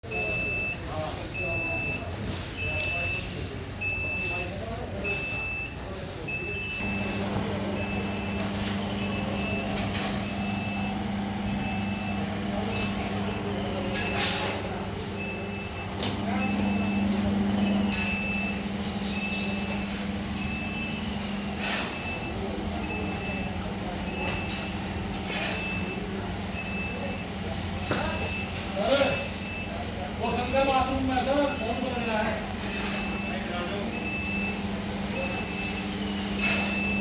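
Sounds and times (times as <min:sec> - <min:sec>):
compressor humming: 0:06.8 - 0:37.0.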